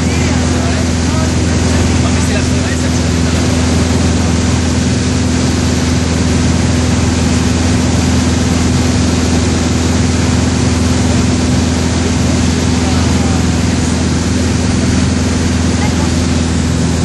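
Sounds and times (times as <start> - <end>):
aircraft engine and propeller droning: 0.0 - 17.0.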